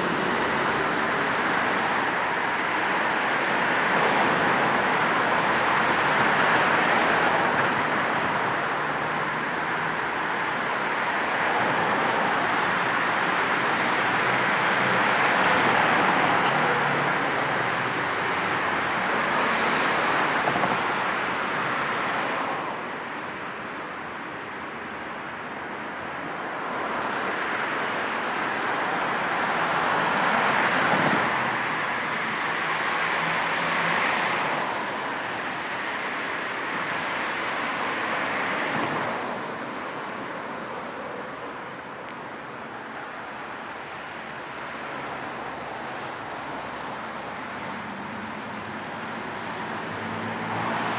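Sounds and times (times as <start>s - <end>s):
road traffic: 0.0s - 50.9s
vehicles passing: 0.0s - 50.9s.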